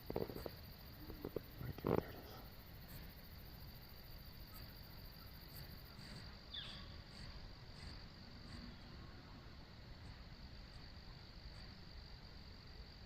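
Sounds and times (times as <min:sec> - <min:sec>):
high-pitched insect-like hum: 0:00.0 - 0:13.0.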